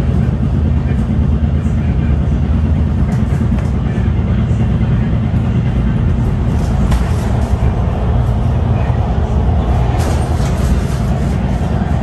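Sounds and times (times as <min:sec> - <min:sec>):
rail car rumbling: 0:00.0 - 0:12.0.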